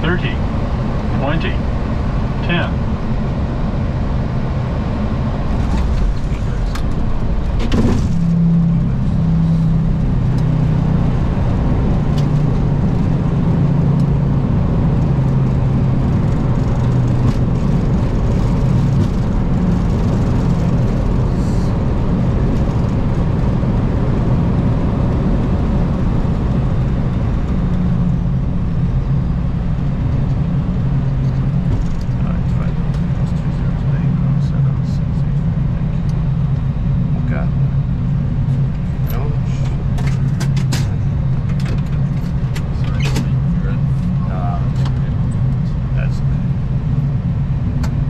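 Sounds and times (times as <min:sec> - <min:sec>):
aircraft engine and airflow drone: 0:00.0 - 0:48.0.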